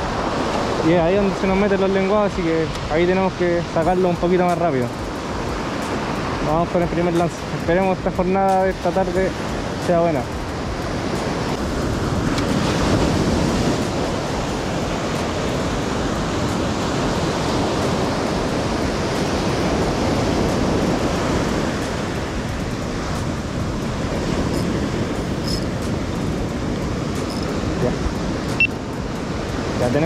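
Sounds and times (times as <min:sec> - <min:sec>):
ocean surf on rocky beach: 0:00.0 - 0:30.0
wind: 0:00.0 - 0:30.0.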